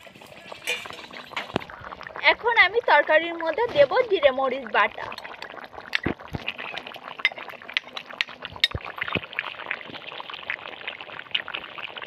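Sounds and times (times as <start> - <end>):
curry bubbling: 0.0 - 12.0.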